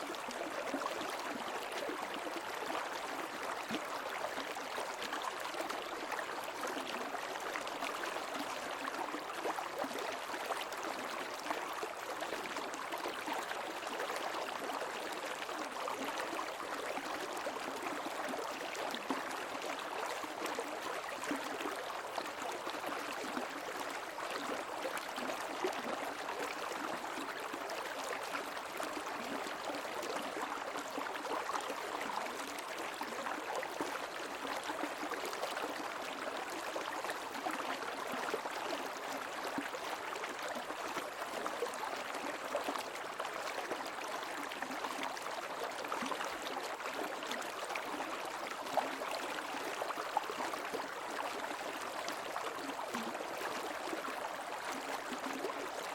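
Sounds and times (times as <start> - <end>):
stream flowing: 0.0 - 55.9.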